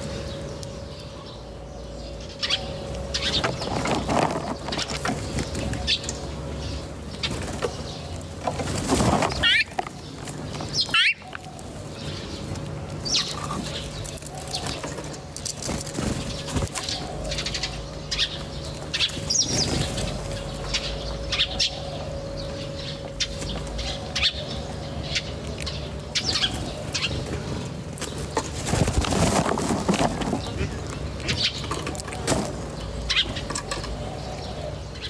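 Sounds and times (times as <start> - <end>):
birds chirping: 0.0 - 35.0
steady low hum: 0.0 - 35.0.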